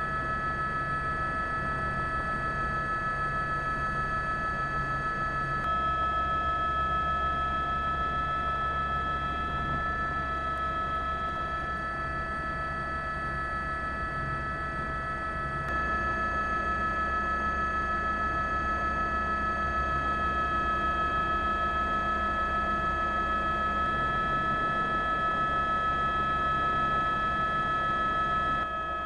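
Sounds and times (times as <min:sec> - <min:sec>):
machine whining over low rumble: 0:03.4 - 0:29.0.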